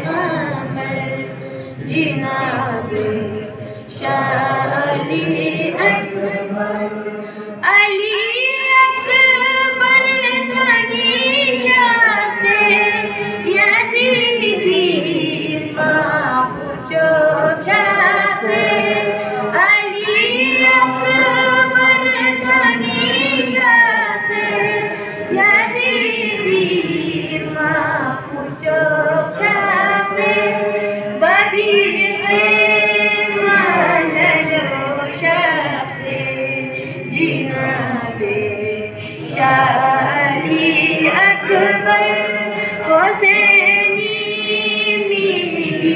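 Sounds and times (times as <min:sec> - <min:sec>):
person chanting devotional poem: 0:00.0 - 0:45.9.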